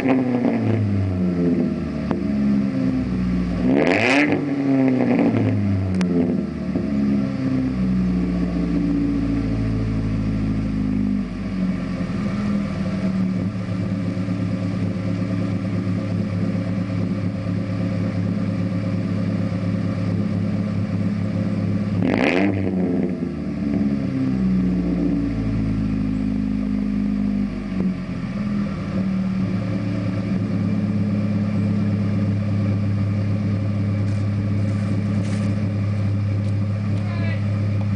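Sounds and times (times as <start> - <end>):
engine revving: 0.0 - 37.9
loud car exhaust drone: 0.0 - 37.9.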